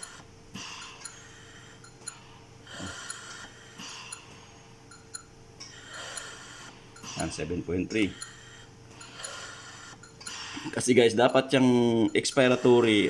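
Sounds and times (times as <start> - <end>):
ventilator gas rushing: 0.0 - 11.4, 12.2 - 13.0
faint steady hum: 0.0 - 13.0.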